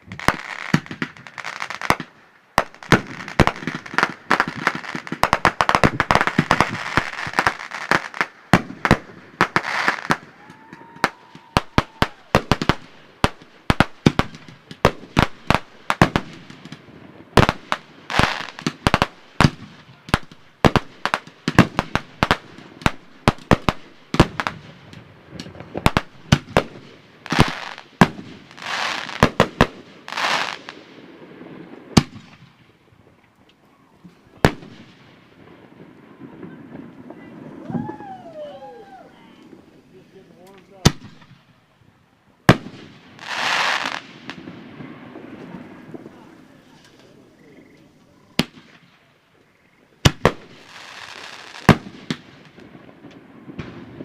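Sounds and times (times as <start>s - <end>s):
fireworks bangs: 0.0s - 33.3s, 34.0s - 41.8s, 42.4s - 54.0s
crackling firework shells: 0.0s - 54.0s.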